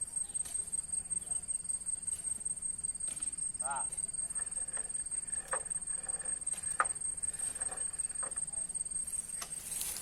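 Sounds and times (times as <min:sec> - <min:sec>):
high-pitched insect trill: 0:00.0 - 0:10.0.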